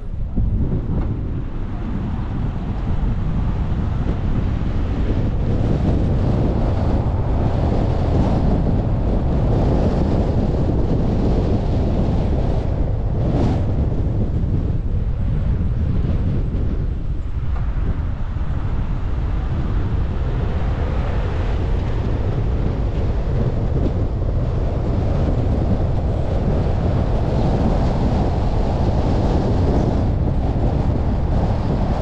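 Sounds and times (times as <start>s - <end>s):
low road noise rumble: 0.0s - 32.0s
wind buffeting microphone: 0.0s - 32.0s.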